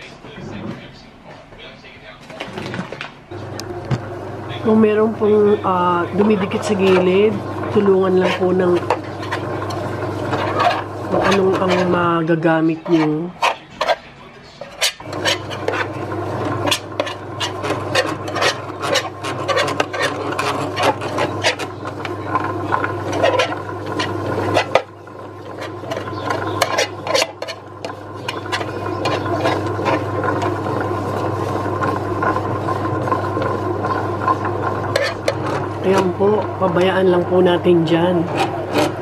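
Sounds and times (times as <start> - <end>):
bread machine motor hum: 0.0 - 39.0
utensil scraping dough: 4.6 - 39.0.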